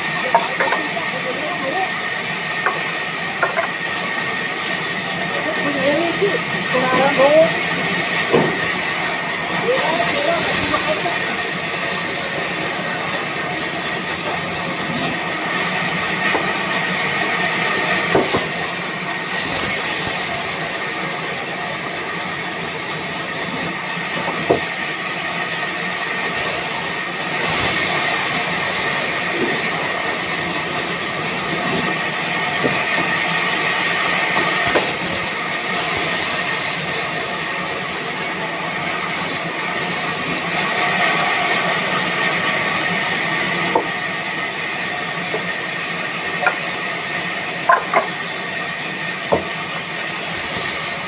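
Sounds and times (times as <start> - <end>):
band saw cutting wood: 0.0 - 51.0.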